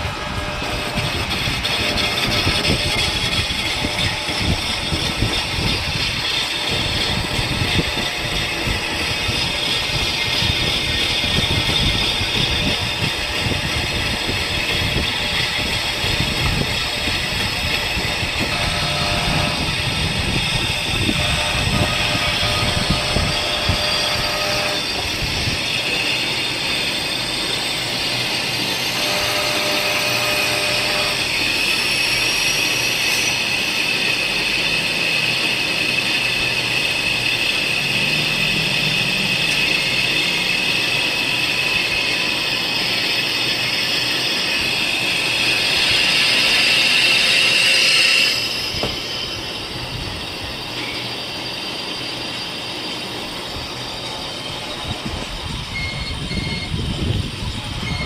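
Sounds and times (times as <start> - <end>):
workshop machine whining: 0.0 - 58.0.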